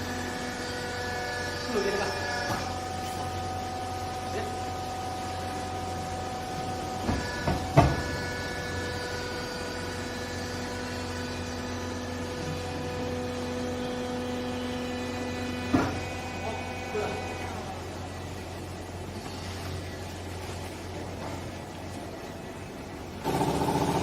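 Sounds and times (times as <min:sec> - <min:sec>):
hydraulic baler motor hum: 0:00.0 - 0:20.2, 0:22.5 - 0:24.0.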